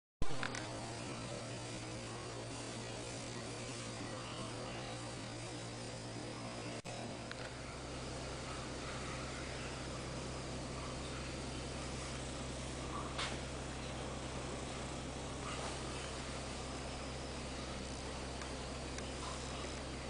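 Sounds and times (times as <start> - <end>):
low electrical hum: 0.2 - 20.0
constant hiss: 0.3 - 20.0.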